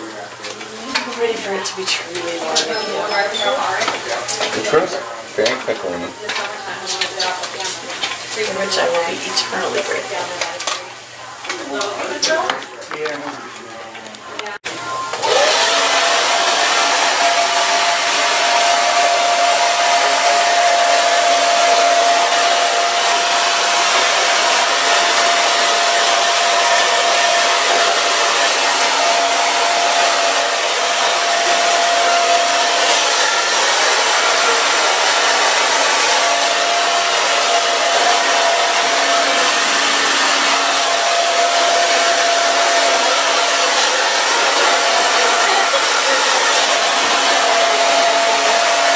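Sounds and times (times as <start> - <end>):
hair dryer blowing with high whine: 0.0 - 10.8, 14.8 - 48.9.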